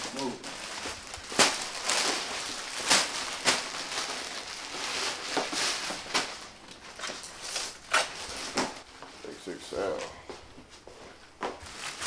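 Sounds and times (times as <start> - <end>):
plastic packaging crinkling: 0.0 - 9.4, 11.6 - 12.0.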